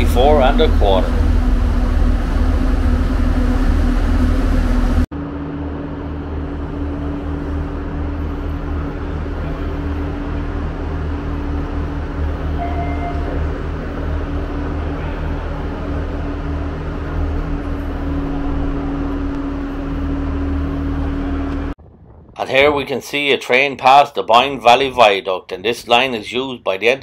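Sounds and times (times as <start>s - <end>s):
train rumbling and humming: 0.0s - 25.0s.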